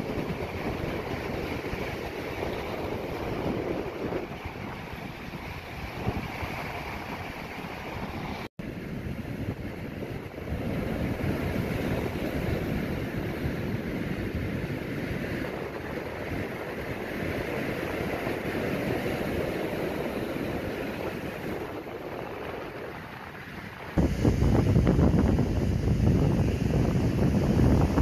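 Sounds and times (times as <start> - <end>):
surf breaking on rocky shore: 0.0 - 28.0.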